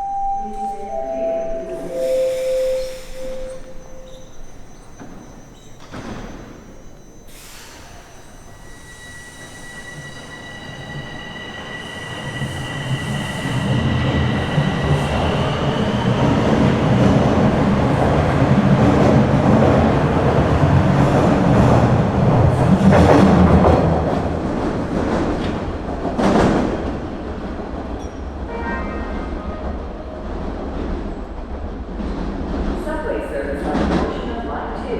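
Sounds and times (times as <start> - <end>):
subway train pulling away: 0.0 - 34.9.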